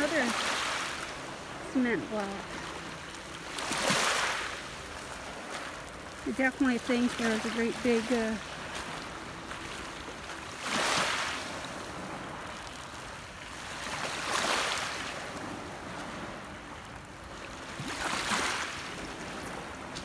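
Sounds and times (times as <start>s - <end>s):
waves washing over pebbles: 0.0s - 20.0s.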